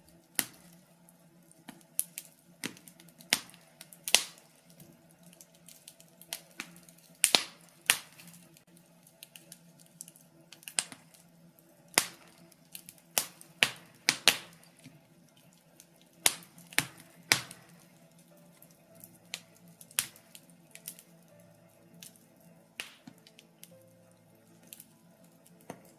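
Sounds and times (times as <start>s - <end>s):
logs crackling in fireplace: 0.0s - 25.9s.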